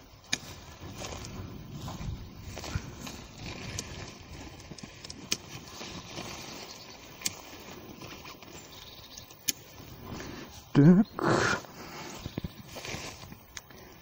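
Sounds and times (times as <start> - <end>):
tent fabric rustling: 0.0 - 10.7, 11.3 - 14.0.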